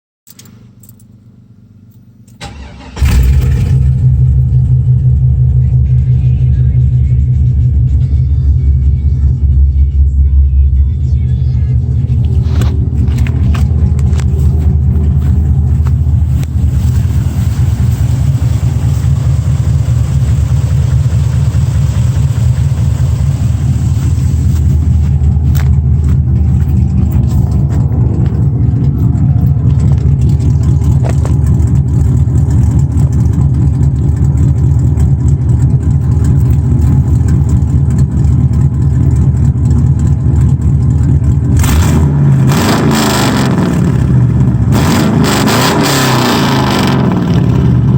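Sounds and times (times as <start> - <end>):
pickup engine running: 0.3 - 47.9.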